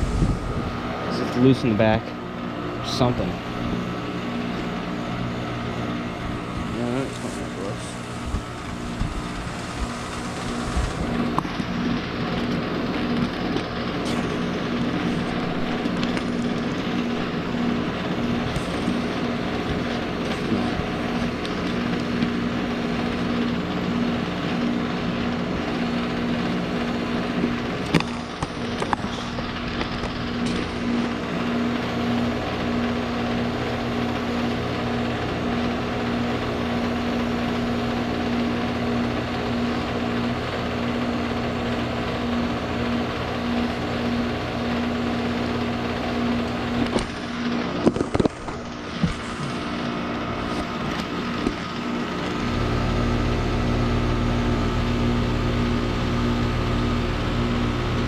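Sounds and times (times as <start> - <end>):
fan noise: 0.0 - 58.0
heat pump compressor hum: 0.0 - 58.0.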